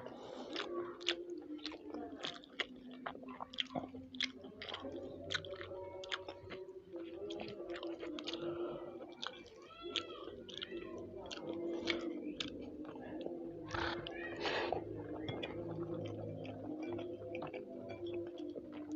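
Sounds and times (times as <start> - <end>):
close chewing: 0.0 - 18.9.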